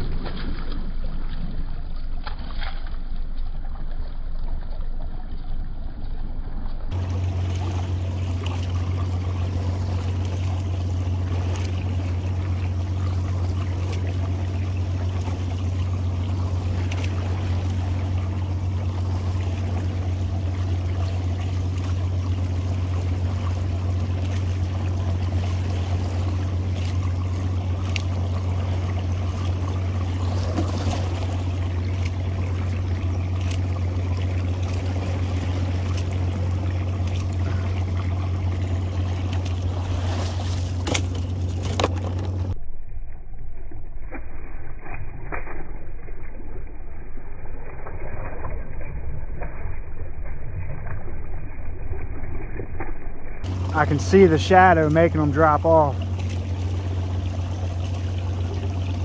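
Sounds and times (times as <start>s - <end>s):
boat motor running: 0.0s - 59.0s
low drone: 0.0s - 59.0s
water splashing along hull: 0.0s - 59.0s.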